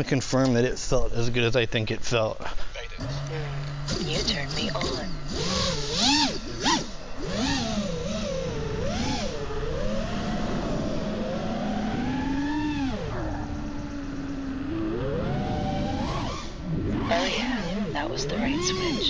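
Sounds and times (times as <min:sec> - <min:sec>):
drone motors whining: 0:02.9 - 0:19.0.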